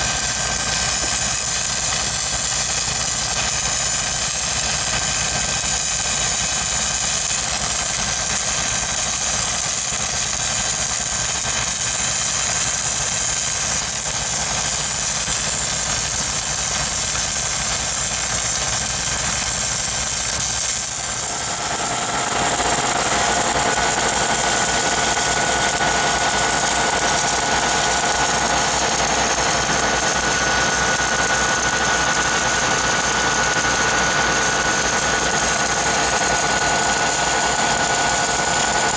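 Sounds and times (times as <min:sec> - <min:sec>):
welding rig engine running: 0:00.0 - 0:38.9.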